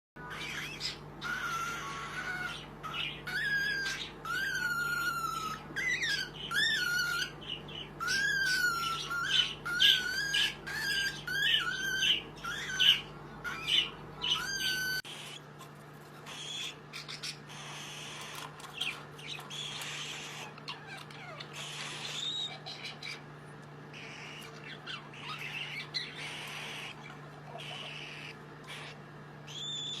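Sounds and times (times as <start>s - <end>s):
baby cockatiel chirping: 0.2s - 15.5s, 16.2s - 23.2s, 23.9s - 30.0s.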